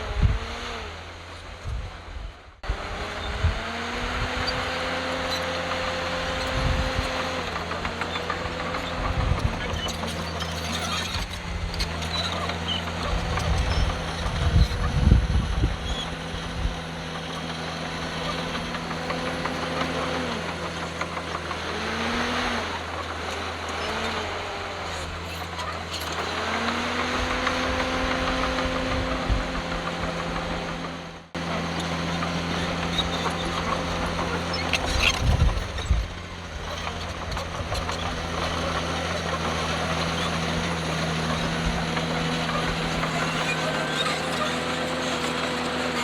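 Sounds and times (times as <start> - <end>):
heavy diesel engine under load: 0.0 - 46.0.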